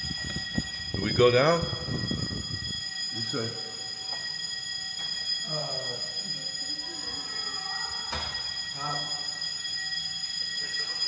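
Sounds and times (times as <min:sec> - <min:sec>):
fire alarm continuous tone: 0:00.0 - 0:11.0.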